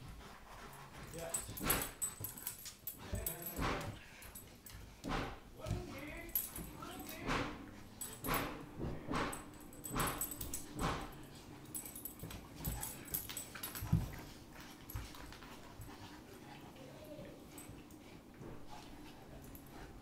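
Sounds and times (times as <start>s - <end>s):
dogs play noises: 0.0s - 20.0s.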